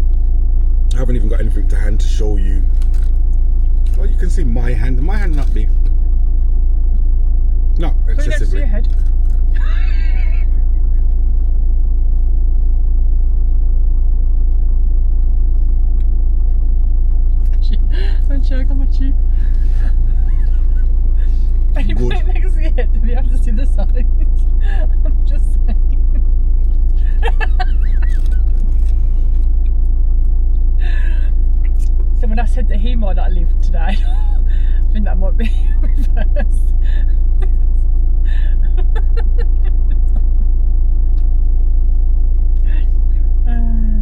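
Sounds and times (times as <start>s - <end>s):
vehicle engine idling: 0.0s - 44.0s.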